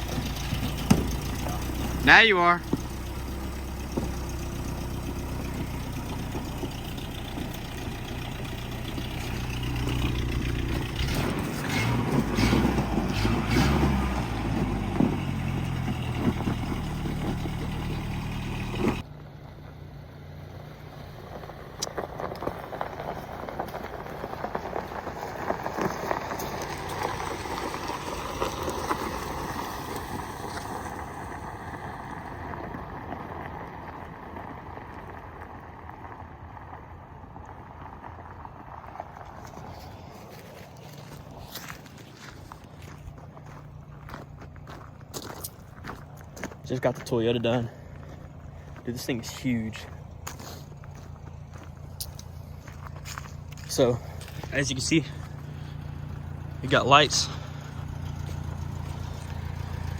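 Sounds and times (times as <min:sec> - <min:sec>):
outdoor noise: 0:00.0 - 0:59.9
pickup truck engine running: 0:00.0 - 0:59.9.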